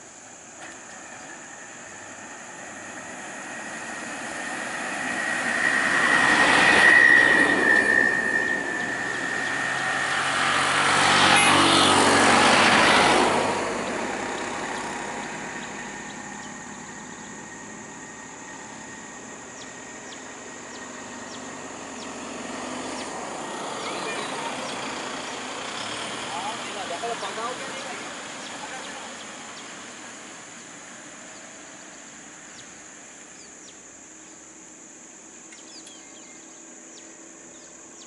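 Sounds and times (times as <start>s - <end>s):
heavy vehicles passing: 0.0s - 38.0s.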